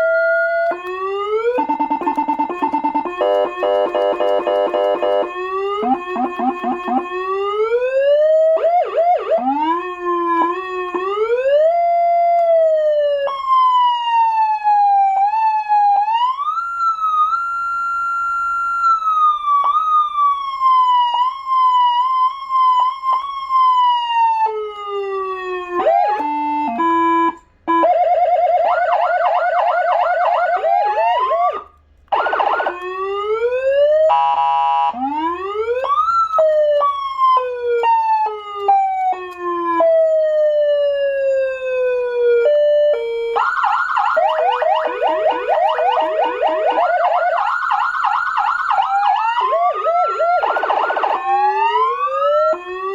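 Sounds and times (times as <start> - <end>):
electronic vehicle siren: 0.0 - 52.9.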